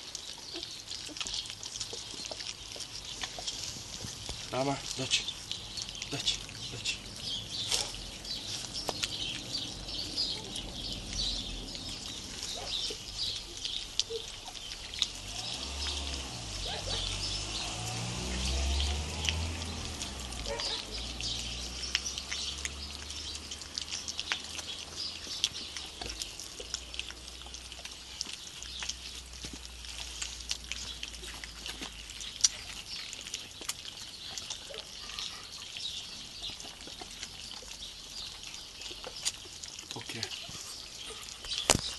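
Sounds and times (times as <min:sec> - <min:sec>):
puppies lapping and smacking: 0:00.0 - 0:41.9.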